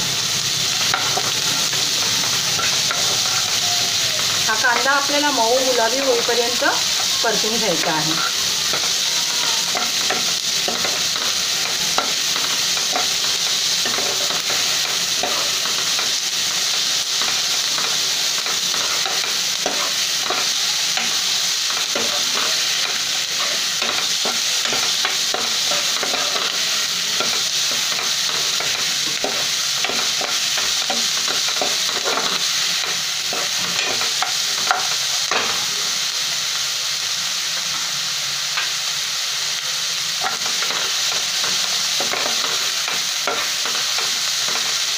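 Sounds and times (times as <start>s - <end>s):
onions sizzling in oil: 0.0s - 44.9s.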